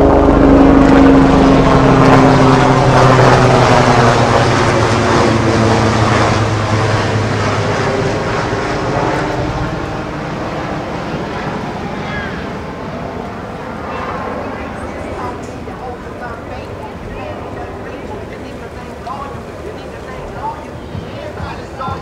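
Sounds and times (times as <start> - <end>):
loud engine running: 0.0 - 22.0.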